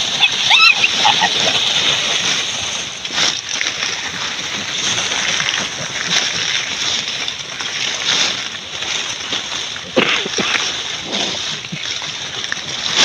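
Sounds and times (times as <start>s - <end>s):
dry leaves crackling: 0.0s - 13.0s.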